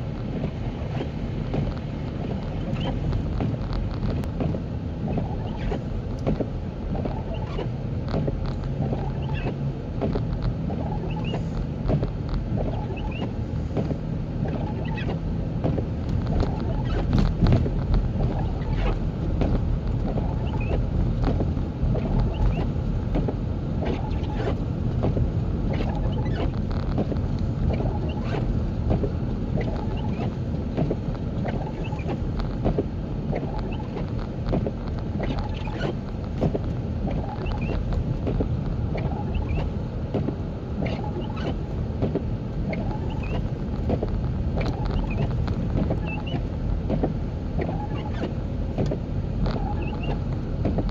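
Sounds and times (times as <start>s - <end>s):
car road and engine rumble: 0.0s - 50.9s
light clicks and crackles: 0.2s - 50.9s.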